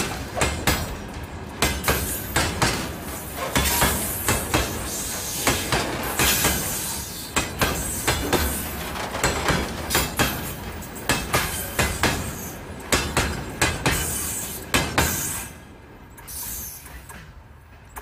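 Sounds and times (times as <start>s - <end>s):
train rolling rumble: 0.0s - 18.0s
train wheels clacking over rail joints: 0.0s - 18.0s.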